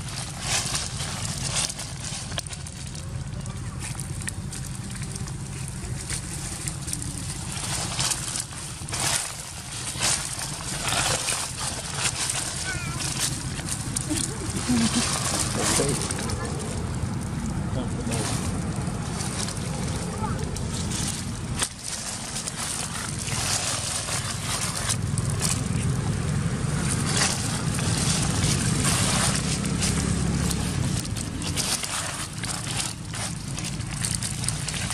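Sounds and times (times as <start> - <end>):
dry leaves crunching underfoot: 0.0 - 34.9
steady low rumble: 0.0 - 34.9.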